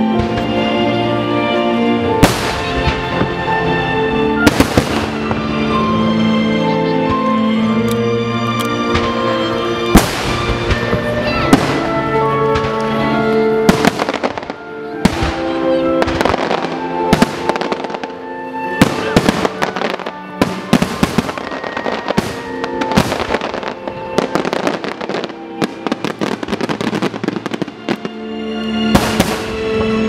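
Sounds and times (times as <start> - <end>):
firework bangs and crackles: 0.0 - 1.4, 2.0 - 7.3, 8.6 - 28.2, 28.8 - 30.0
music playing: 0.0 - 30.0.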